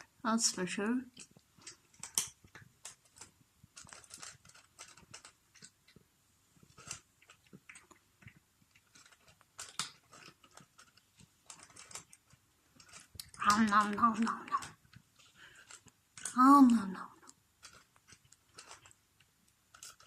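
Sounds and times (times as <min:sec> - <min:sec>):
cat chewing food: 0:01.1 - 0:16.4, 0:17.1 - 0:20.0.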